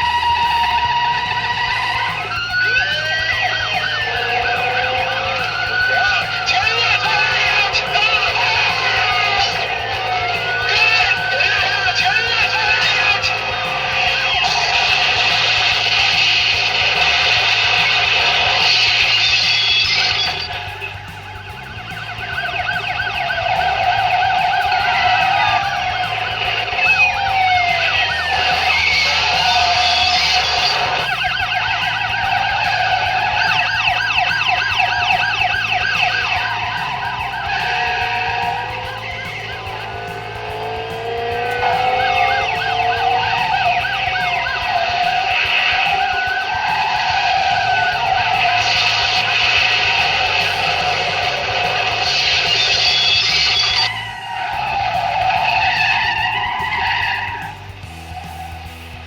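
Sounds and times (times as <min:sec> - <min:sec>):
background music: 0:00.0 - 0:59.0
car tyres squealing: 0:00.0 - 0:59.0
police siren yelping: 0:00.0 - 0:59.0
police sirens wailing: 0:00.0 - 0:59.0.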